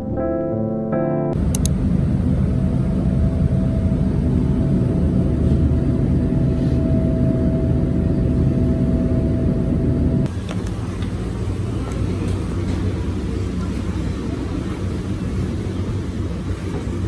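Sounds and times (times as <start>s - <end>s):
bus engine low rumble: 1.4s - 17.0s
steady engine whine: 1.4s - 17.0s.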